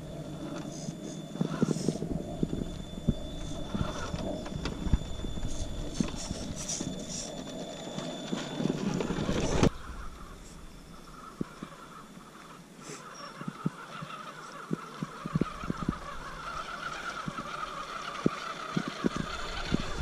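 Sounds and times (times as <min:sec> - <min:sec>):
high drivetrain whine: 0:00.0 - 0:12.8, 0:13.4 - 0:20.0.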